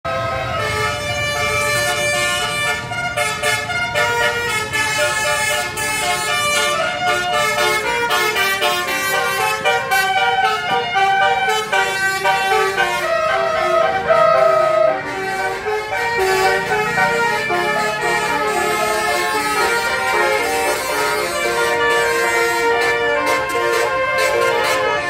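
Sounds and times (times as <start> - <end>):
bus air horn playing a tune: 0.0 - 25.0.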